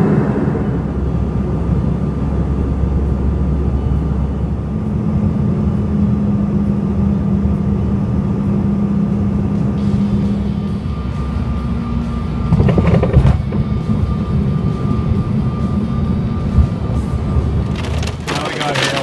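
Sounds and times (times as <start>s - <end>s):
low hum: 0.0s - 18.9s
vehicle engine drone: 0.0s - 19.0s.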